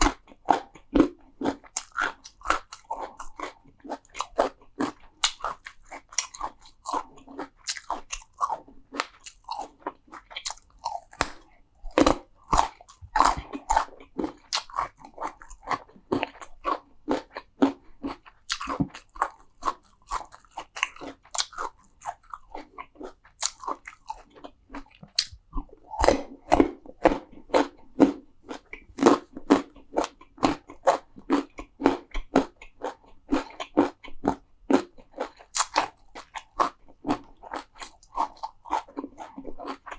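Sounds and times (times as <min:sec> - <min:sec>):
person chewing crisp food: 0:00.0 - 0:39.9.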